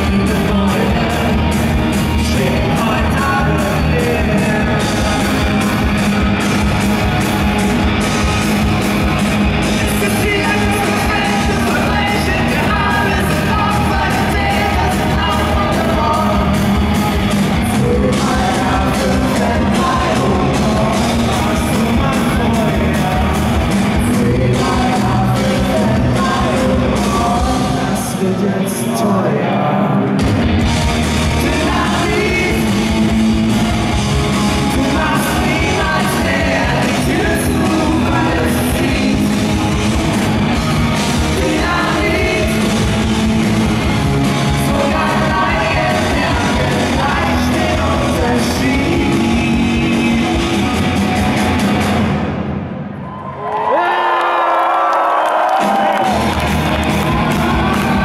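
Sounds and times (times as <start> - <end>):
person singing lead vocal: 0.0 - 7.5, 8.1 - 30.4, 31.1 - 40.1, 40.8 - 51.2
rock band playing live: 0.0 - 53.0, 55.4 - 58.0.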